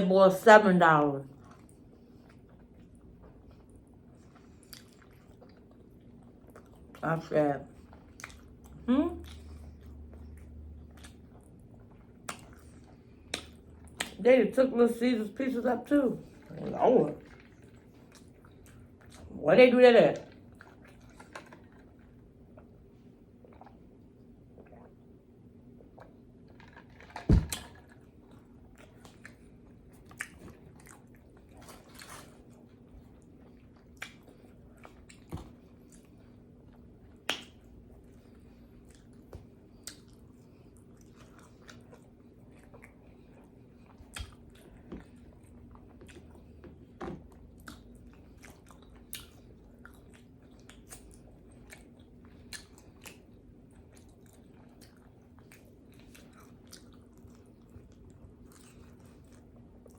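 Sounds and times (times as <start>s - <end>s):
chewing and lip-smacking: 1.3s - 7.0s, 7.7s - 14.2s, 16.2s - 19.3s, 20.2s - 59.9s.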